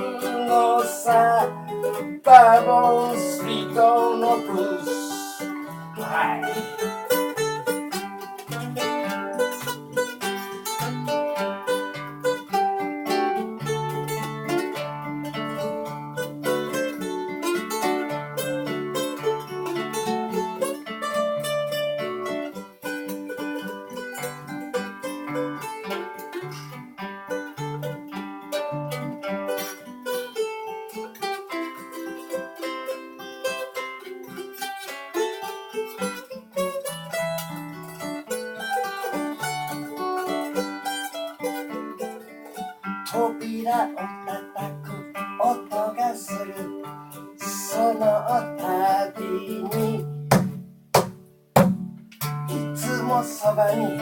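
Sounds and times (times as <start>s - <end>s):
acoustic guitar chords: 0.0s - 54.0s
plucked-string lead melody: 0.0s - 54.0s.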